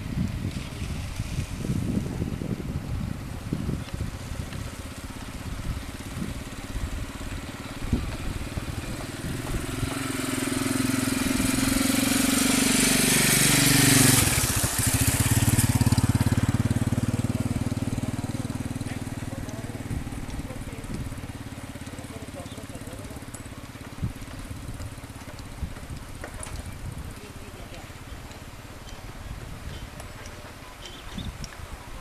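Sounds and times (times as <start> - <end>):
truck diesel engine: 4.2 - 32.0.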